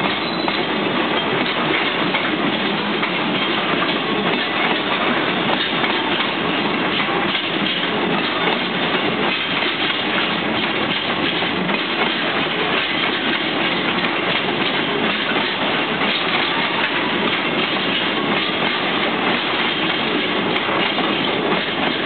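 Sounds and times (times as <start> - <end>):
steel wheels running on rails: 0.0 - 22.0
wheels clacking over rail joints: 0.0 - 22.0.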